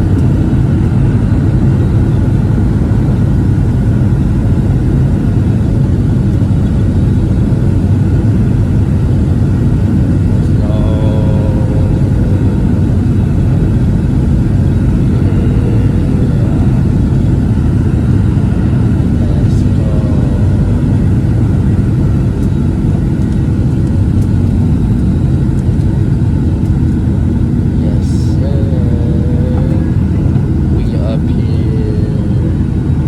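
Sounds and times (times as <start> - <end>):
faint engine whine: 0.0 - 33.0
jet engine rumble: 0.0 - 33.0.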